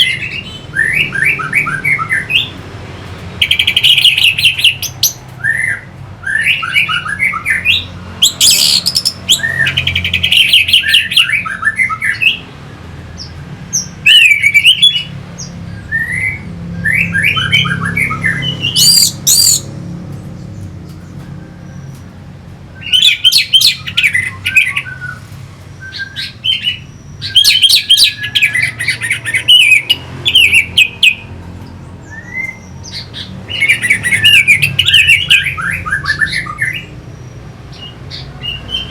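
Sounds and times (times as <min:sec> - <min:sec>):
thrush singing whistled notes: 0:00.0 - 0:02.6, 0:03.4 - 0:12.5, 0:13.1 - 0:19.7, 0:22.7 - 0:31.3, 0:31.9 - 0:38.9.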